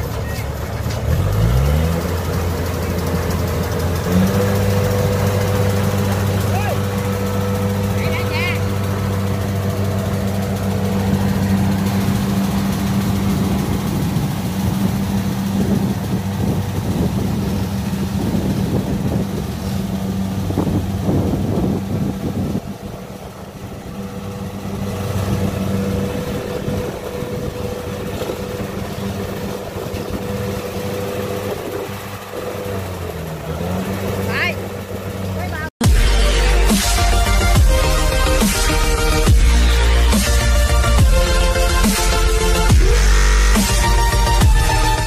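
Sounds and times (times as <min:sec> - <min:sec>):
combine harvester diesel engine running: 0:00.0 - 0:45.0.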